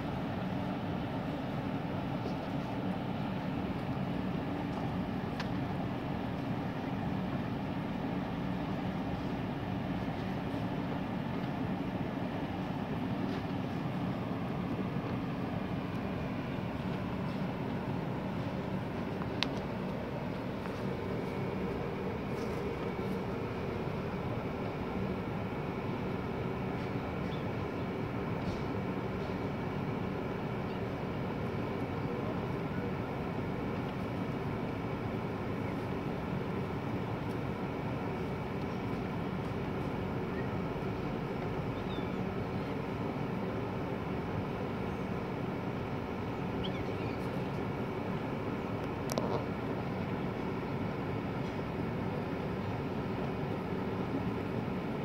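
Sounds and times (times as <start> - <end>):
low outdoor rumble: 0.0 - 55.0.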